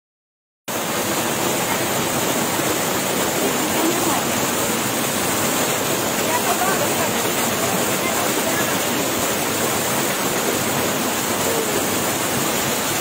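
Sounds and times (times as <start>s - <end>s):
waterfall rushing: 0.7s - 13.0s.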